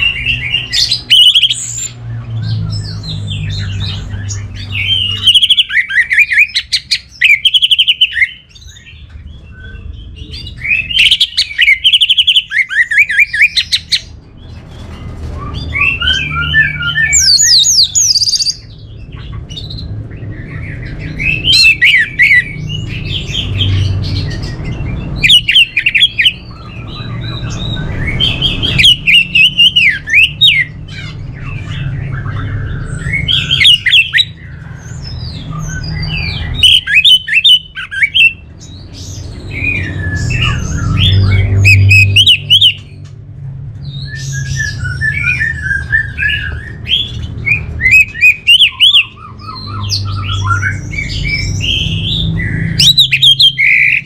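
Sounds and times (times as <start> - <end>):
thrush singing whistles and trills: 0.0 - 43.1, 43.8 - 54.0.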